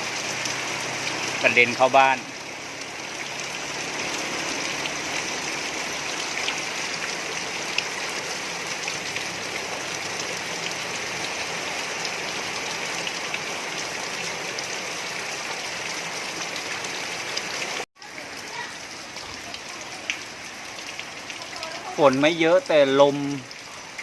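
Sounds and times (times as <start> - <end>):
rain falling steadily: 0.0 - 24.0.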